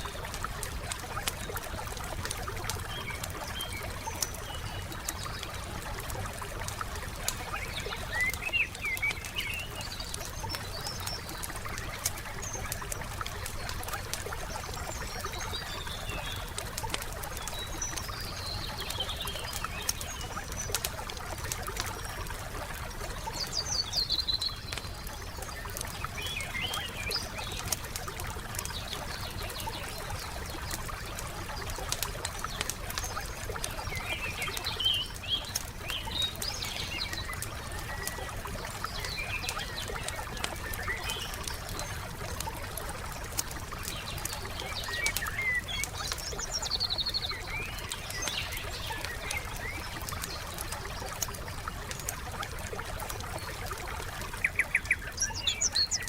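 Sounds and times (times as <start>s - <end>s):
wood fire crackling: 0.0s - 55.2s
songbirds chirping: 0.0s - 56.0s.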